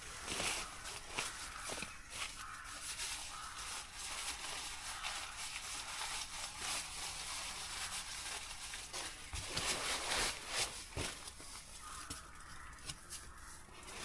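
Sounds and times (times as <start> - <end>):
material rustling and crinkling: 0.0 - 14.0.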